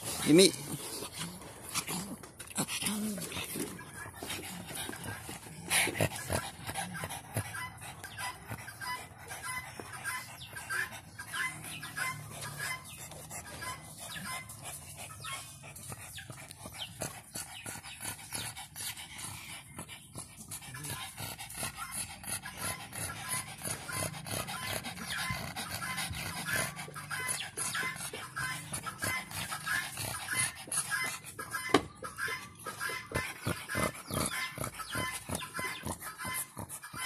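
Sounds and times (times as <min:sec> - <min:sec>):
puppy panting: 0:00.0 - 0:37.0.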